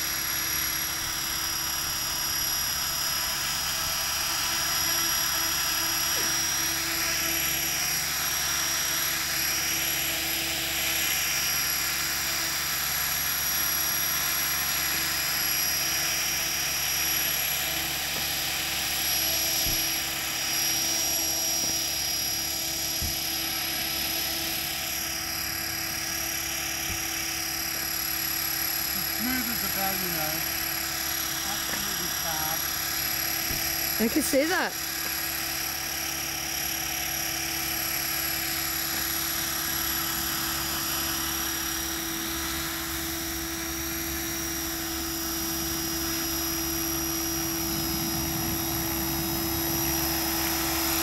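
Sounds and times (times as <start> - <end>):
rc helicopter motor whine: 0.0 - 51.0.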